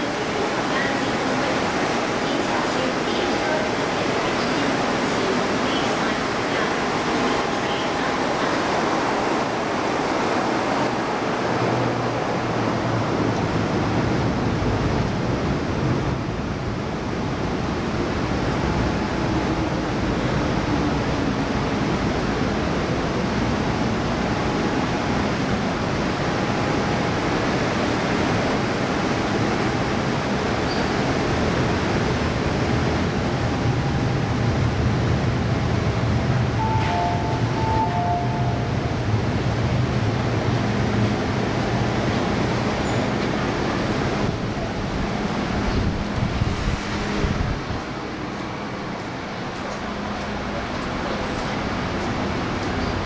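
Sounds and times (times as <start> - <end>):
train rumbling to a stop: 0.0 - 53.0.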